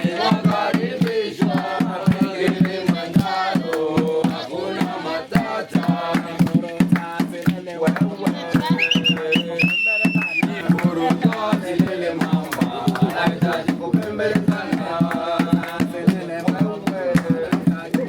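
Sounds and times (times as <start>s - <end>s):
group singing together: 0.0s - 18.0s
rhythmic percussion: 0.0s - 18.0s.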